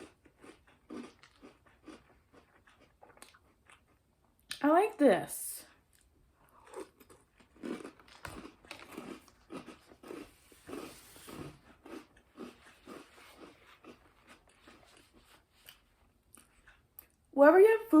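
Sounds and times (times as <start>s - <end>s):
person chewing cereal: 0.0s - 4.5s, 5.7s - 17.2s.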